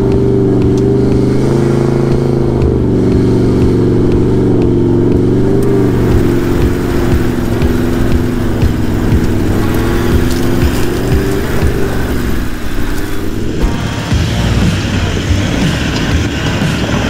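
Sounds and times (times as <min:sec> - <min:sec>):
diesel engine exhaust while driving: 0:00.0 - 0:17.0.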